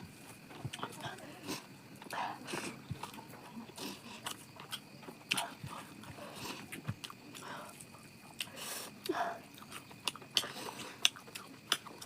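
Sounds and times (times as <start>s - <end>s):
mouth clicks and crunches: 0.4s - 12.0s
person chewing food: 0.5s - 12.0s.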